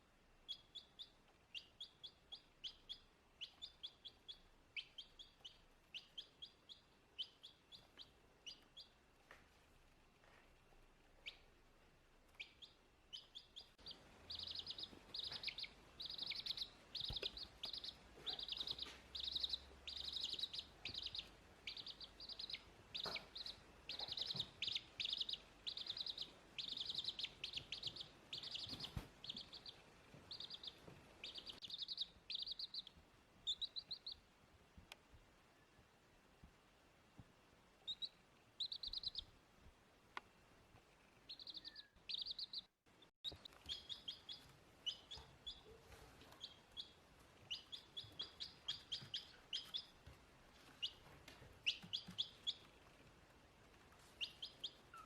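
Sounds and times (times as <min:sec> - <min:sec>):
chick peeping: 0:00.4 - 0:09.0, 0:11.2 - 0:11.6, 0:12.3 - 0:34.3, 0:37.8 - 0:39.3, 0:41.0 - 0:53.1, 0:53.7 - 0:55.0.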